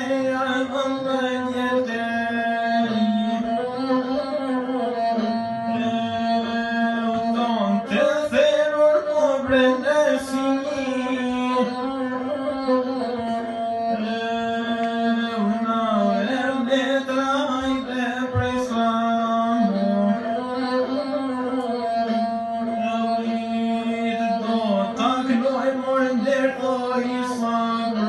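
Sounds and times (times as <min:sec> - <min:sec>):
bowed one-string fiddle: 0:00.0 - 0:28.0.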